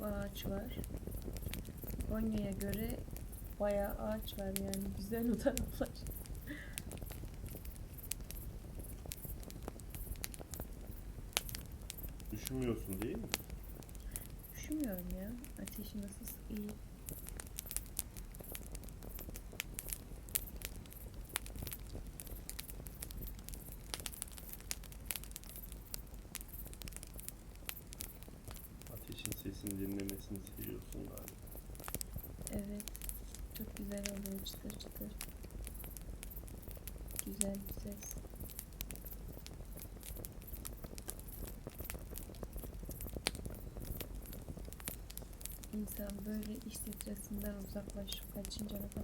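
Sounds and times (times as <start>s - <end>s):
campfire pops and snaps: 0.0s - 49.0s
low rumble of burning: 0.0s - 49.0s.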